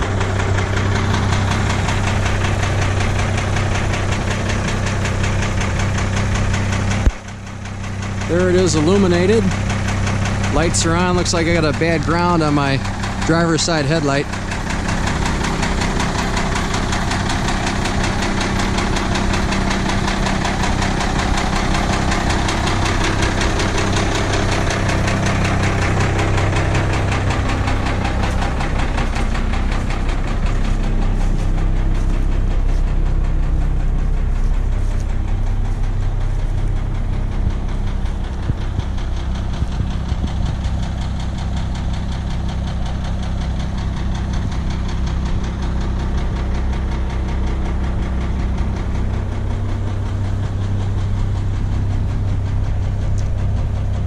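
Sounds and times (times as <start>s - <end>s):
diesel bus engine idling: 0.0s - 54.0s.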